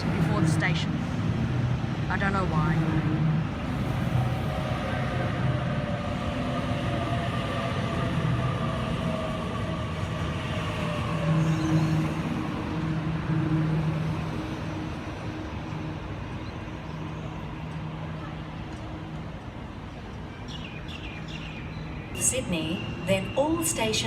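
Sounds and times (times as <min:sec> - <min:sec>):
low hum and rumble: 0:00.0 - 0:20.2
traction motors whining: 0:00.0 - 0:20.5.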